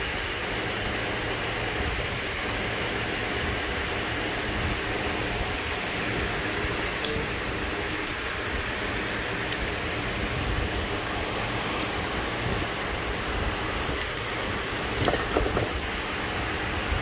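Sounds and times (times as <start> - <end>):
steady hiss and low rumble: 0.0 - 17.0.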